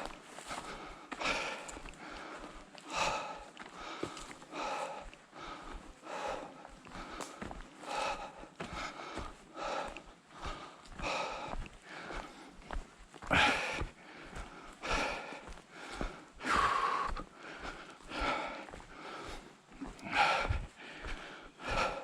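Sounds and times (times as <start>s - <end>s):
footsteps on trail: 0.0s - 22.0s
person breathing hard: 0.0s - 22.0s.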